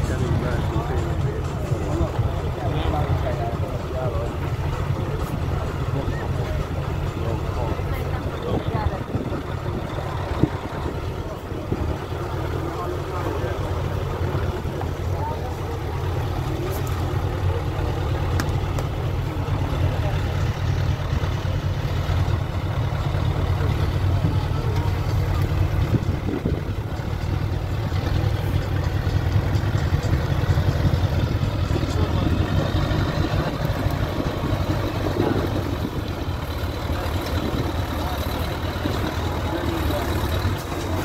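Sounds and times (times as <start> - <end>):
truck engine running deep: 0.0 - 41.0.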